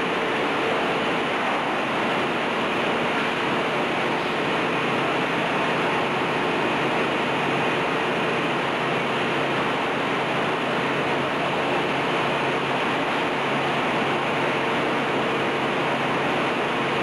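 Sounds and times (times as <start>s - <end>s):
conveyor machinery rushing: 0.0s - 17.0s.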